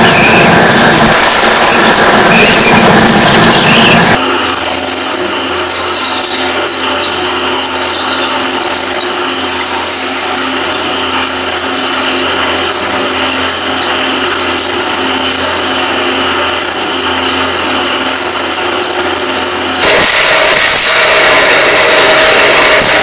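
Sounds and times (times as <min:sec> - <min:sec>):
shredder drive drone: 0:00.0 - 0:23.0.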